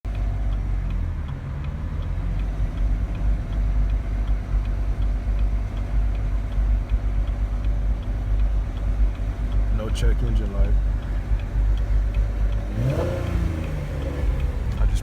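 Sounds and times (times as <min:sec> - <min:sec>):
car engine low rumble: 0:00.0 - 0:15.0
faint even ticking: 0:00.1 - 0:15.0.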